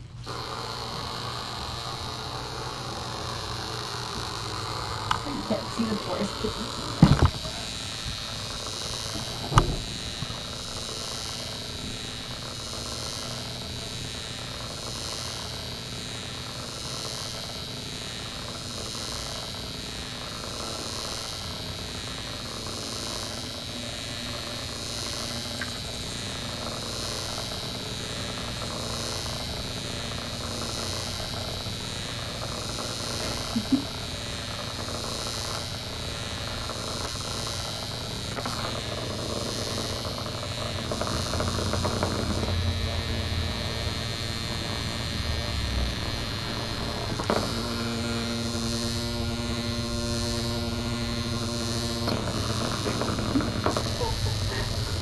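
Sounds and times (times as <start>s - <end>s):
microphone hiss and hum: 0.0s - 55.0s
thin high whine: 0.0s - 55.0s.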